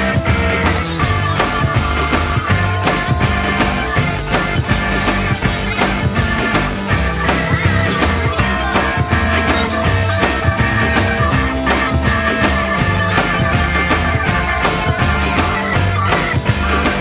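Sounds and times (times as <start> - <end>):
drum beat: 0.0 - 17.0.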